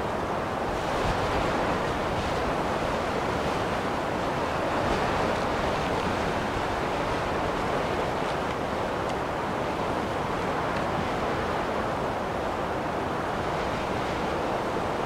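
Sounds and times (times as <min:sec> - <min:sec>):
blizzard wind blowing: 0:00.0 - 0:15.0.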